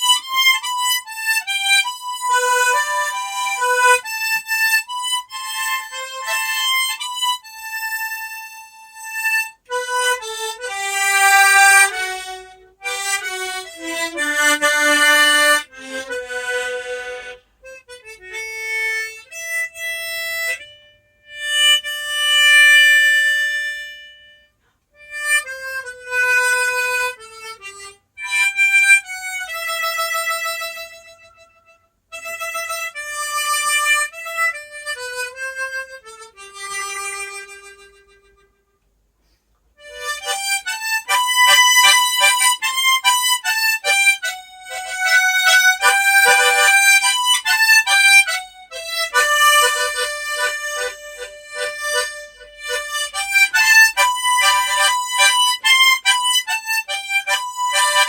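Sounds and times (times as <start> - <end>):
harmonica melody: 0.0 - 58.0.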